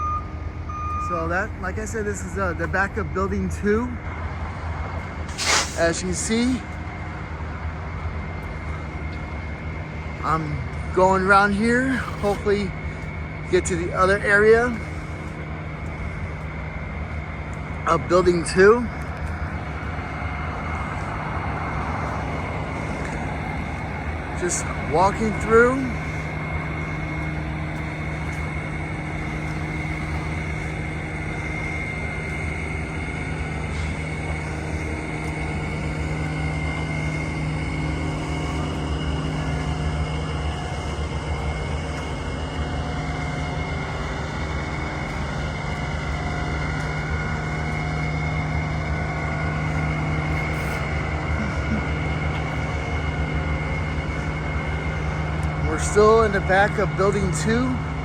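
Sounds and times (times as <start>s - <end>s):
high steady whine: 0.0s - 58.0s
vehicle engine and road drone: 0.0s - 58.0s.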